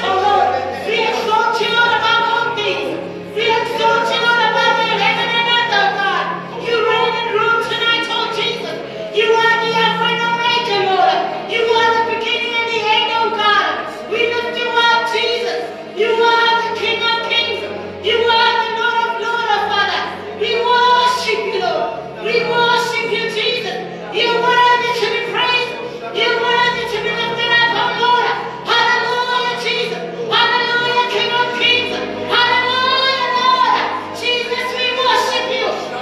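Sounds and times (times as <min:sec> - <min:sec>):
keyboard chords: 0:00.0 - 0:36.0.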